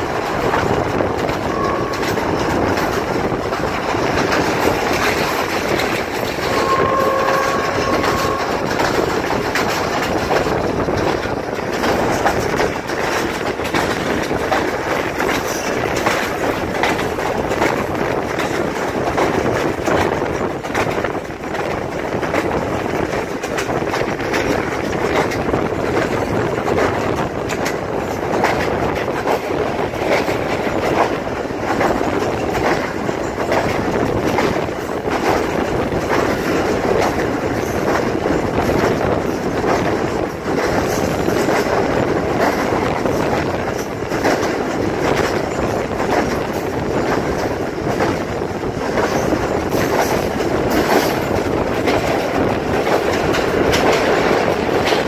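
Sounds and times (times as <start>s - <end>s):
train rumbling rush: 0.0s - 55.0s
wheels clattering over rail joints: 0.0s - 55.0s.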